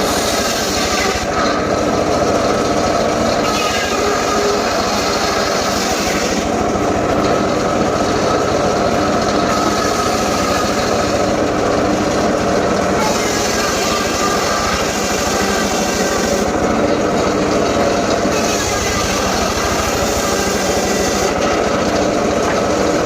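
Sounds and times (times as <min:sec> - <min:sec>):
engine-powered saw cutting wood: 0:00.0 - 0:23.0.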